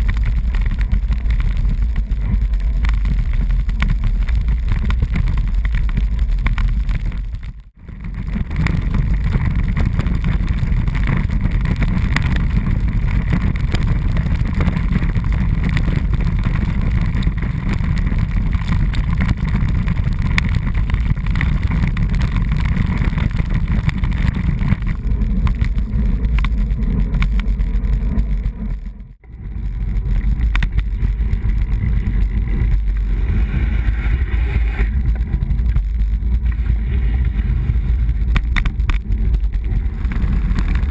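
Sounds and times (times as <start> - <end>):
bicycle road rumble: 0.0 - 40.9
wind buffeting microphone: 0.0 - 40.9.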